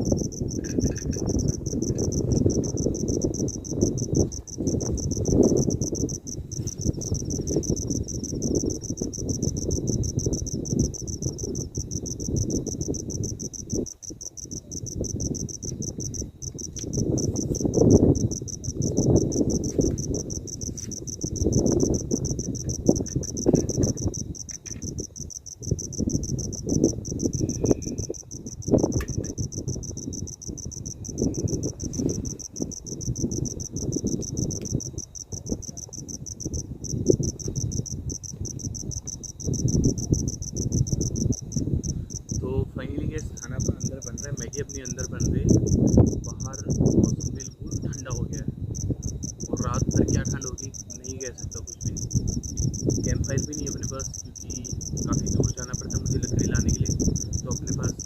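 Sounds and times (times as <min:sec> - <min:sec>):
crickets trilling: 0:00.0 - 0:58.0
strong wind buffeting tent: 0:00.0 - 0:58.0.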